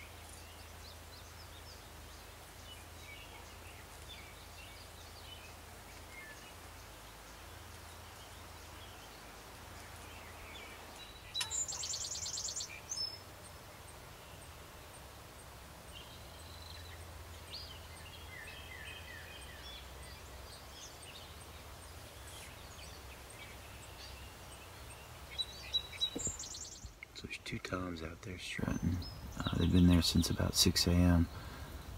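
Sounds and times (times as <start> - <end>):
birds calling: 0.0 - 31.9
faint outdoor ambience: 0.0 - 31.9.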